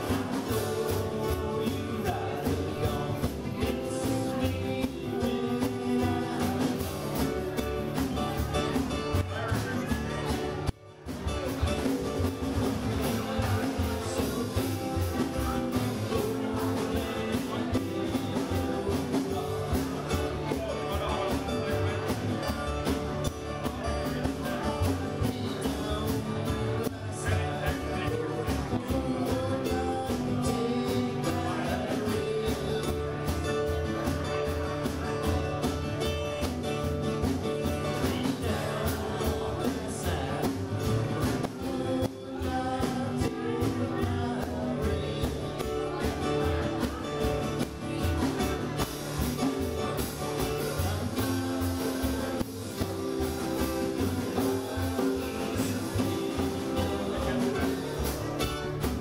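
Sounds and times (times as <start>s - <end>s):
lead vocal singing: 0.0s - 10.7s, 11.4s - 59.0s
steady drum beat: 0.0s - 59.0s
strummed acoustic guitars: 0.0s - 59.0s.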